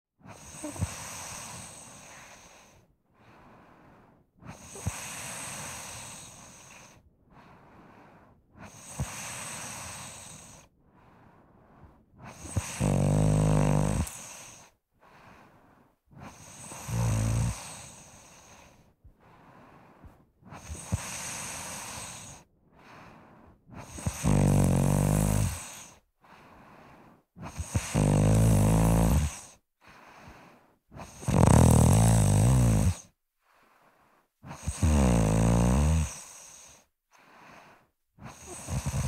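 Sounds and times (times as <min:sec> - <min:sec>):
low buzzing snores: 0:00.2 - 0:39.0
person snoring: 0:00.3 - 0:02.8, 0:03.4 - 0:10.7, 0:12.2 - 0:15.6, 0:16.2 - 0:33.2, 0:34.4 - 0:39.0.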